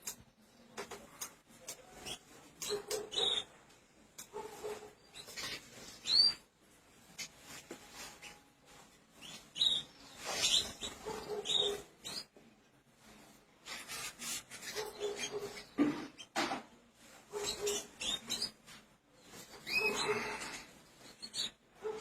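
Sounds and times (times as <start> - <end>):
canaries chirping: 0.0 - 12.5, 13.1 - 16.4, 17.0 - 22.0.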